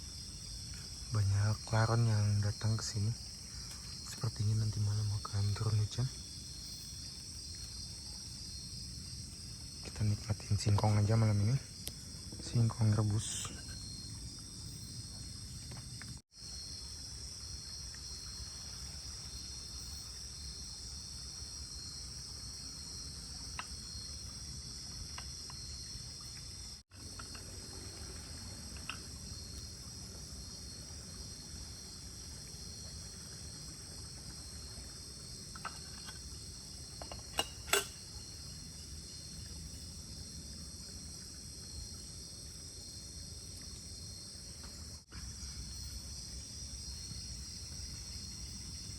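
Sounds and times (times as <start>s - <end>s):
crickets and insects trilling: 0.0s - 48.9s.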